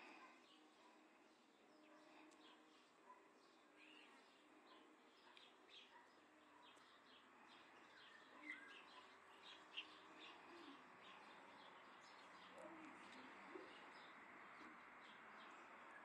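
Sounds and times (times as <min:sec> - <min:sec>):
faint songbird chirping: 0:00.0 - 0:16.0.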